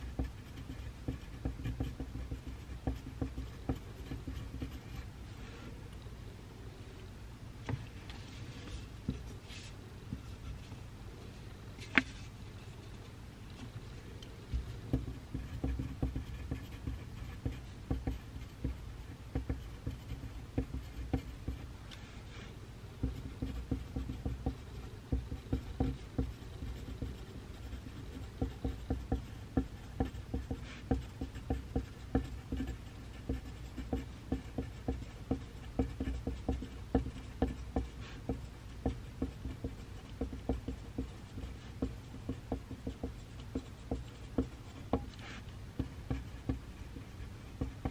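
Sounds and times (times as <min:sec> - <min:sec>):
pencil scratching on paper: 0:00.0 - 0:05.1, 0:14.5 - 0:47.9.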